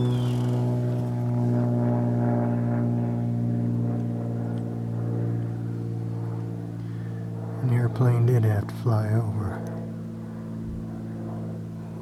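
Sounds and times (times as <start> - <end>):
propeller airplane droning: 0.0 - 12.0.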